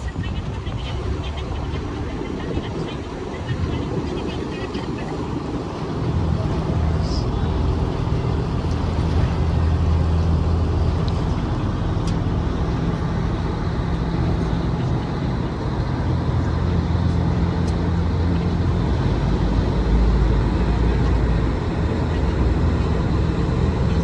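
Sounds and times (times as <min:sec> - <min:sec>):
ferry engine droning: 0:00.0 - 0:24.0.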